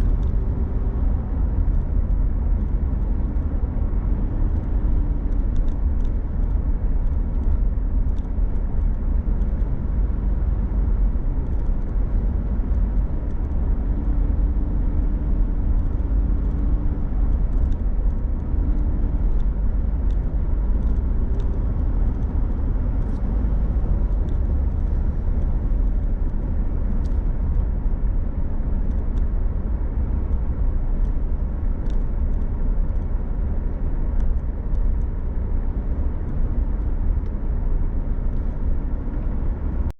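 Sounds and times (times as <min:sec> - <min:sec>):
vehicle road and engine rumble: 0:00.0 - 0:39.9.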